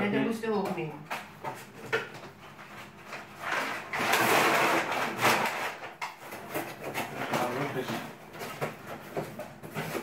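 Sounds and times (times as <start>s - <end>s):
packing paper rustling: 1.2s - 10.0s.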